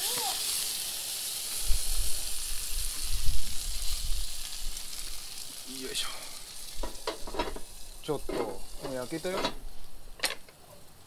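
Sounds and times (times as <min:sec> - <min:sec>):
food sizzling in a skillet: 0:00.0 - 0:10.2.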